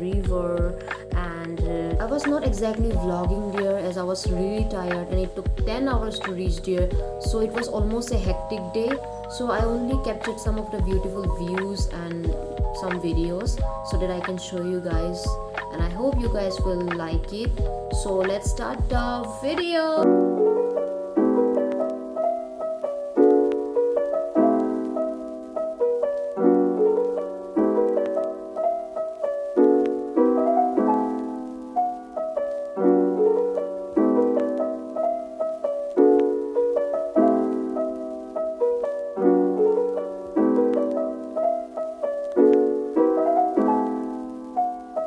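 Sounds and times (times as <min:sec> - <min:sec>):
soft piano chords: 0:00.0 - 0:45.0.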